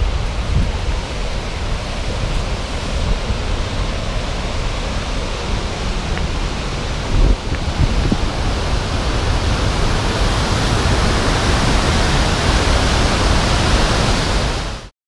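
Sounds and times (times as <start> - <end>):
water pouring over a dam: 0.0 - 14.9.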